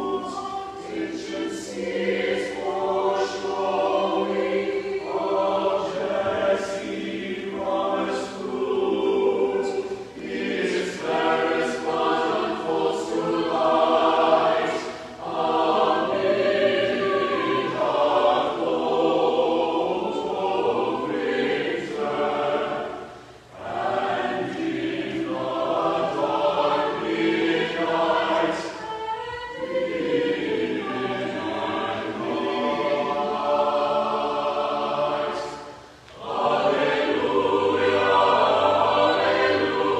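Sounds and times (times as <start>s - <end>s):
mixed choir singing: 0.0s - 39.9s
choir breaths: 7.8s - 39.9s.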